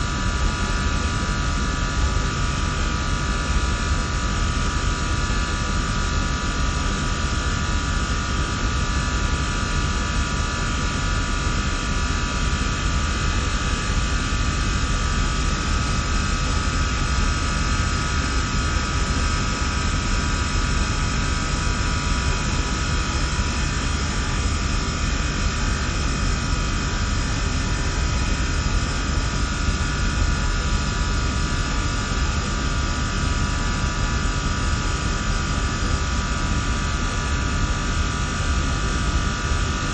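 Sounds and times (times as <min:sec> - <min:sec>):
fan noise with low rumble: 0:00.0 - 0:39.9.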